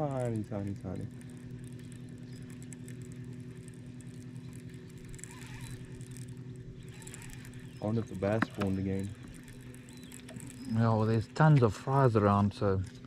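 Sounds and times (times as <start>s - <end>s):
trolling motor humming: 0.0s - 13.0s.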